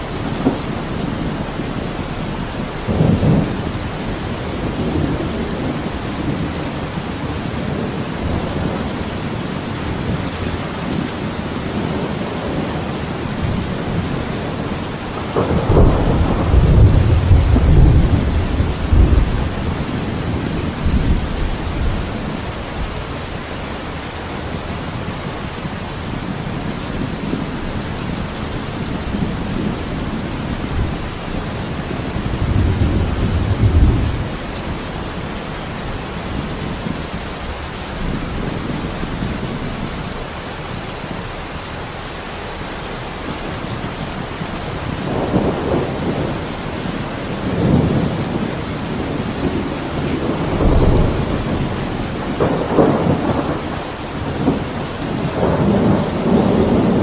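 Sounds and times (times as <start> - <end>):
thunder rumbling: 0.0 - 41.5, 43.2 - 57.0
steady rain: 0.0 - 57.0.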